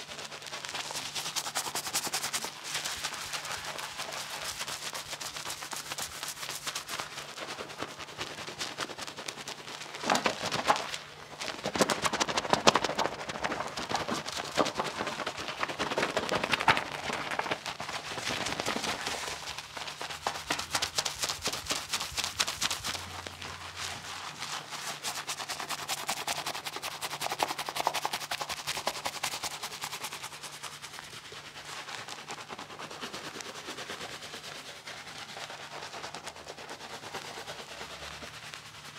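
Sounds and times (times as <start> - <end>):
fingers scrubbing shampoo lather: 0.0 - 38.9.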